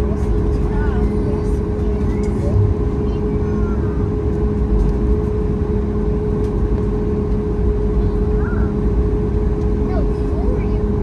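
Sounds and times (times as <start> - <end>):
airplane engines humming in cabin: 0.0 - 11.0.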